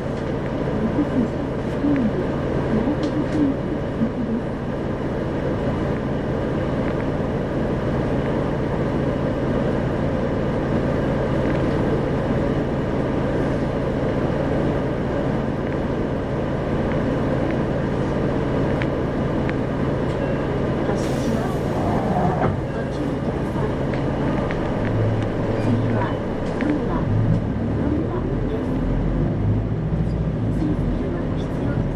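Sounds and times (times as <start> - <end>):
diesel bus engine hum: 0.0 - 31.9
road and tyre noise: 0.0 - 31.9.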